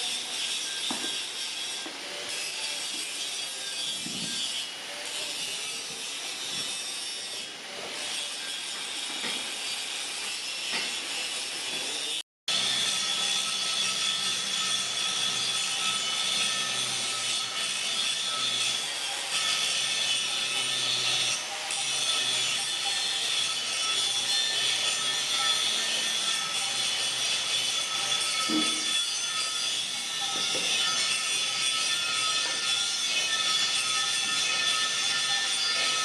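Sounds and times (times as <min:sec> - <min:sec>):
tool scraping metal: 0:00.0 - 0:36.0.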